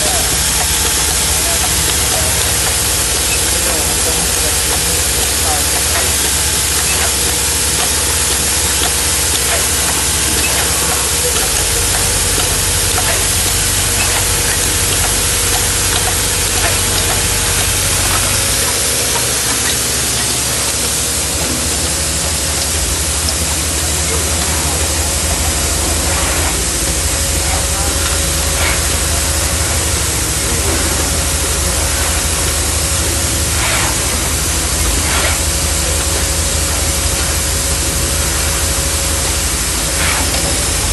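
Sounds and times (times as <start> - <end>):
faint machine clicks: 0.0 - 40.9
machine compressed air hiss: 0.0 - 40.9.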